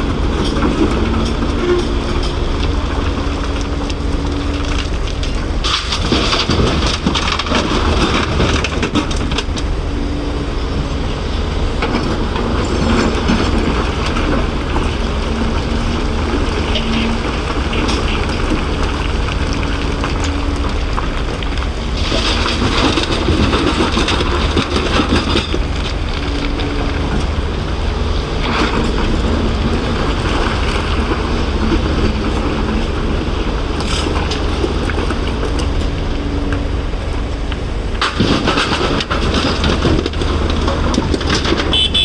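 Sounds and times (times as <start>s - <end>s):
excavator diesel engine droning: 0.0s - 42.0s
rushes of machine noise: 0.0s - 42.0s.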